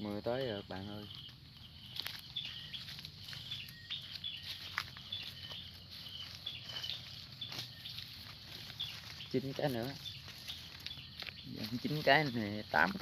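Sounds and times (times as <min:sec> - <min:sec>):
insects chirping: 0:00.0 - 0:13.0
footsteps on muddy path: 0:00.6 - 0:13.0
brushing through wet grass: 0:01.8 - 0:13.0.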